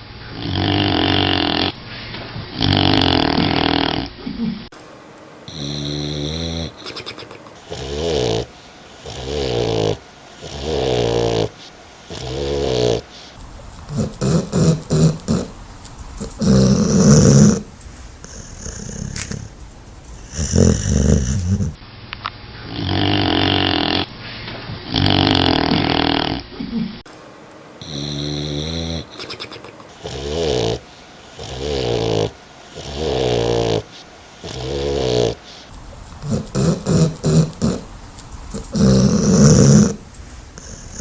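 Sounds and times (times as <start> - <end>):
dogs snoring: 0.0 - 1.8, 2.4 - 4.8, 5.5 - 21.8, 22.6 - 24.1, 24.7 - 27.1, 27.8 - 41.0.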